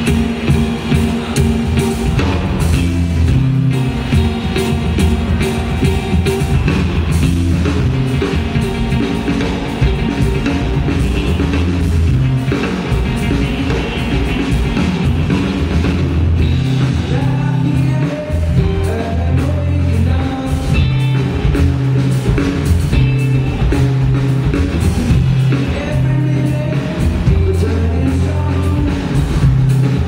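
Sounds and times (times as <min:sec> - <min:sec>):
bass notes: 0:00.0 - 0:30.0
drum kit: 0:00.0 - 0:30.0
electric guitars: 0:00.0 - 0:30.0.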